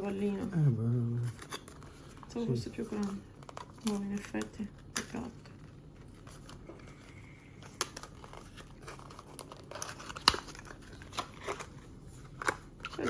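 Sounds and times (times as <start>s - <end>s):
packaging crinkling: 1.3s - 13.0s.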